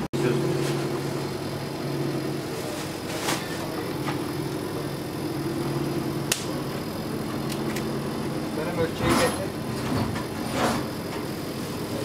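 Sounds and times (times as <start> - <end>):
motor hum: 0.0 - 12.0
noisy background: 0.0 - 12.0.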